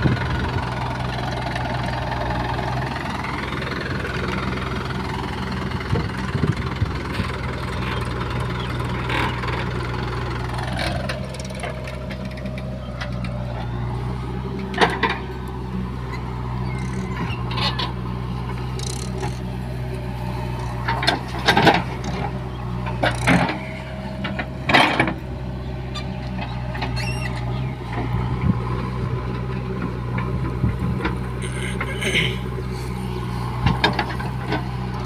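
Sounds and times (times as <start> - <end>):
diesel engine under load: 0.0 - 35.0.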